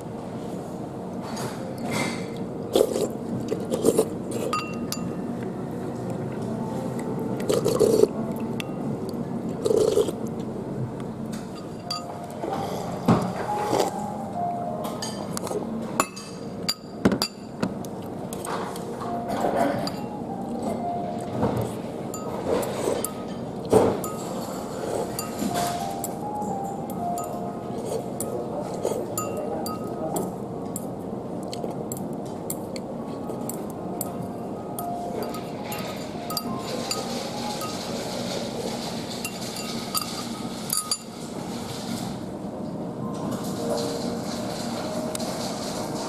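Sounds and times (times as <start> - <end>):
steady background hum: 0.0 - 46.0.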